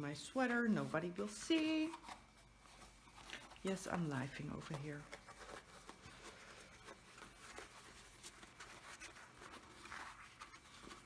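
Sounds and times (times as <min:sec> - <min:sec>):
plastic wrapping rustling: 0:00.0 - 0:11.0.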